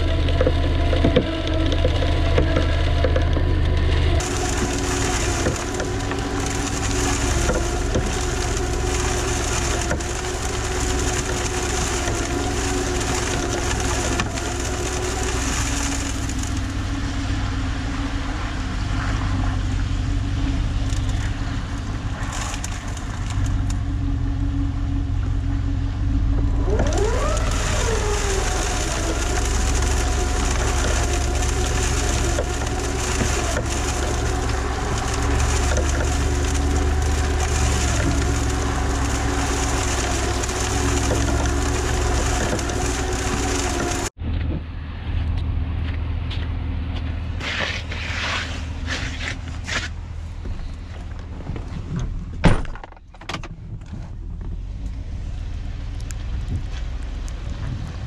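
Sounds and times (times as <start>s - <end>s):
steady whine: 0.0s - 51.6s
truck engine rumble: 0.0s - 58.0s.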